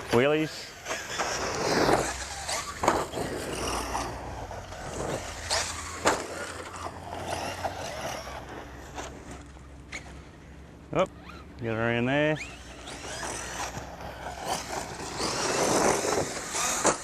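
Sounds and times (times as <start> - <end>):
rc truck tyre and drivetrain noise: 0.0 - 17.0.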